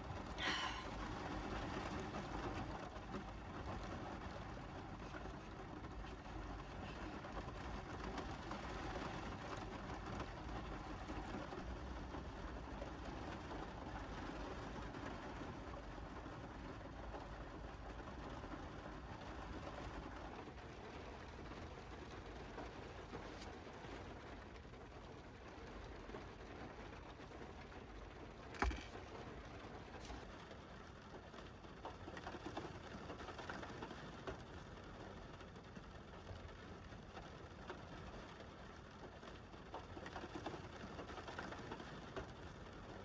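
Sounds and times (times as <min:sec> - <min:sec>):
rain on a car roof: 0:01.4 - 0:43.0.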